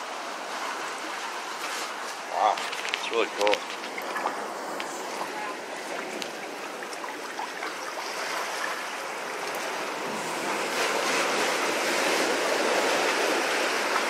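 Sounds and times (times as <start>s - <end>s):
ocean surf in a sea cave: 0.0s - 14.0s.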